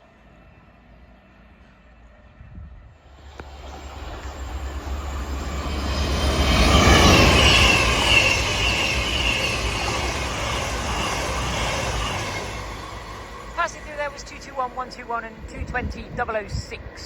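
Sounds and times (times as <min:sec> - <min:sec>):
diesel train passing at speed: 0:00.0 - 0:17.0.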